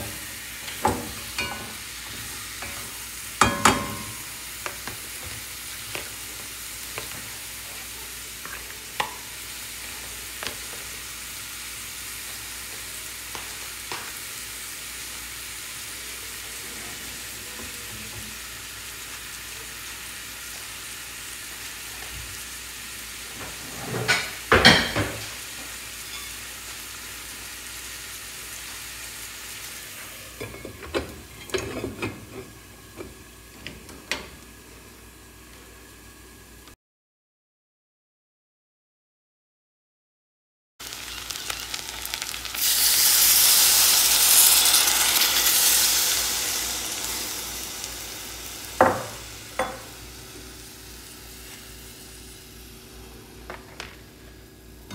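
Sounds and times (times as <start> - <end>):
food sizzling in a frying pan: 0.0 - 36.7, 40.8 - 54.9.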